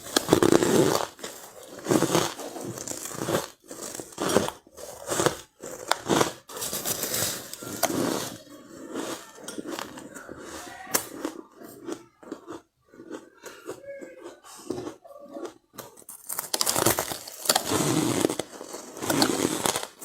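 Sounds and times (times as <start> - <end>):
chewing: 0.0 - 20.0
crunching ice: 0.0 - 20.0.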